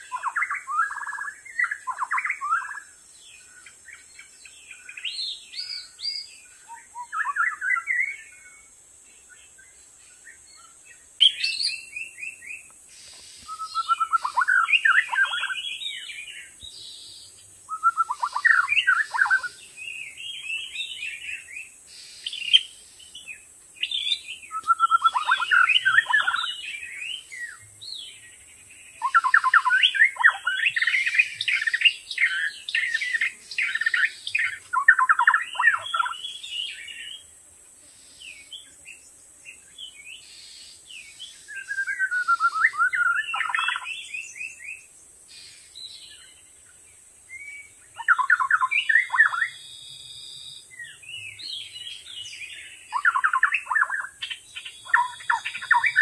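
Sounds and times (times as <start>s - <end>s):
bird singing whistles and trills: 0.0s - 37.3s, 39.6s - 56.0s.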